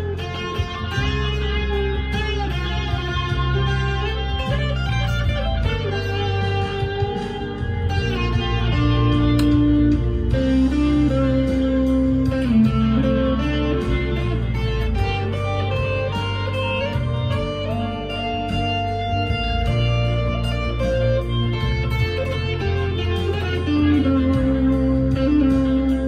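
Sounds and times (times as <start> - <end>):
overdriven electric guitar lead: 0.0 - 26.0.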